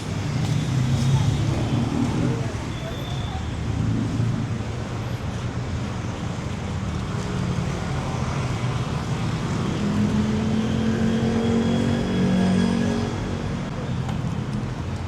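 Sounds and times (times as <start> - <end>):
steady road noise: 0.0 - 15.0
vehicle engines running: 0.0 - 15.0.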